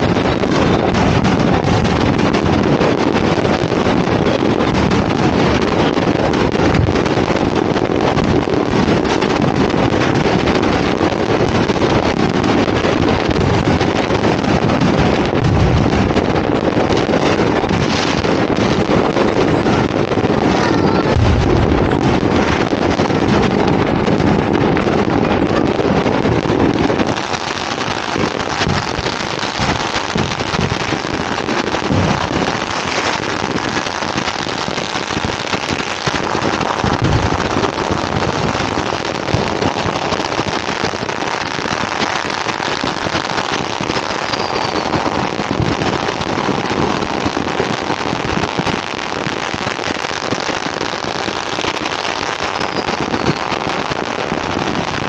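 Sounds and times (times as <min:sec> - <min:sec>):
firecrackers crackling: 0:00.0 - 0:55.0
wind buffeting microphone: 0:00.0 - 0:55.0.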